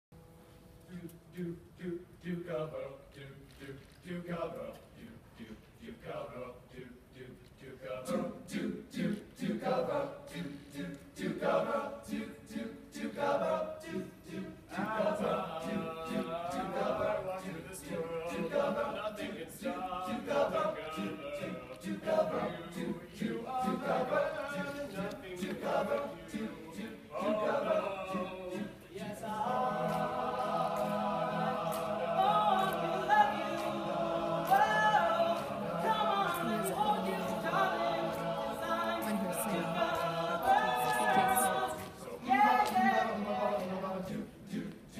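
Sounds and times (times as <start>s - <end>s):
male choir singing a cappella: 0.8s - 44.9s.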